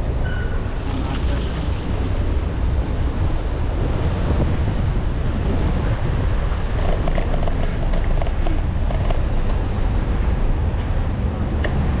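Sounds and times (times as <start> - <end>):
road traffic rumble: 0.0 - 12.0
wind on microphone: 0.0 - 12.0.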